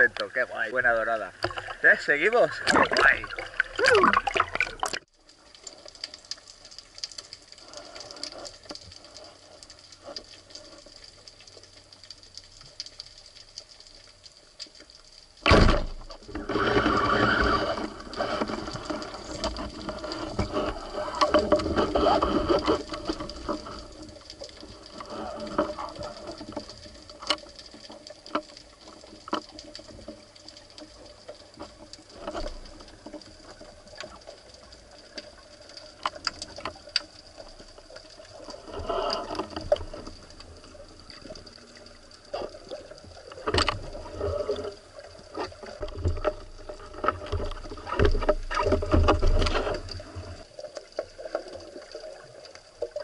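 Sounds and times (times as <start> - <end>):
water moving underwater: 0.0 - 53.0.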